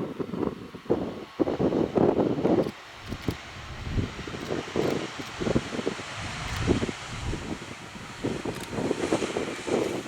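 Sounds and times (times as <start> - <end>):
jet engine noise: 0.0 - 10.0
wind buffeting microphone: 0.0 - 10.0.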